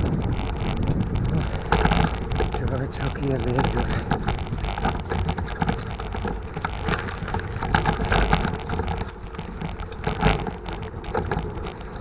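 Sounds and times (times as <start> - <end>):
bike rattling and clicking: 0.0 - 12.0
wind rushing over microphone: 0.0 - 12.0.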